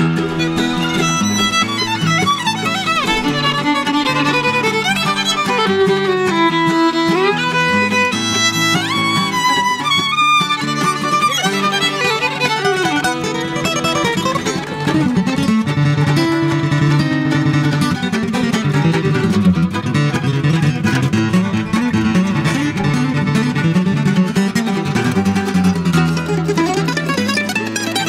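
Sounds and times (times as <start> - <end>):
acoustic guitar: 0.0 - 28.0
fiddle melody: 0.0 - 28.0
mandolin: 0.0 - 28.0.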